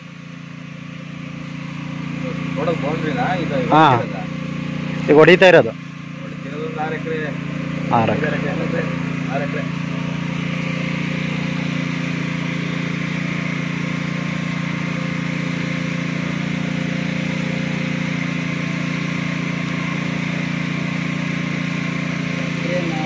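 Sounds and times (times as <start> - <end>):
spray pump engine running: 0.0 - 23.0.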